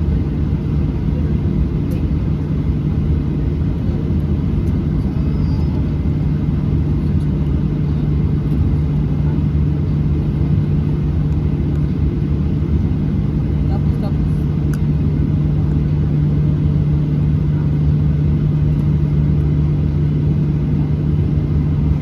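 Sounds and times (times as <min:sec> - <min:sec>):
jet engine rumble in cabin: 0:00.0 - 0:22.0
low hum: 0:00.0 - 0:22.0.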